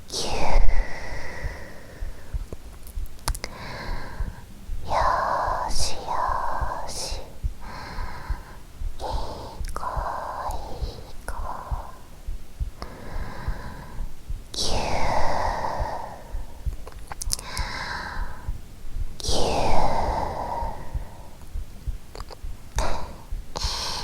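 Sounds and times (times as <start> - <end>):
low heartbeat: 0.0 - 24.0.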